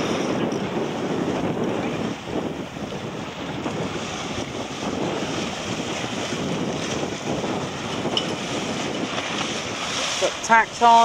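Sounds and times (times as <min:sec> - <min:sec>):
choppy water: 0:00.0 - 0:11.0
wind buffeting microphone: 0:00.0 - 0:11.0.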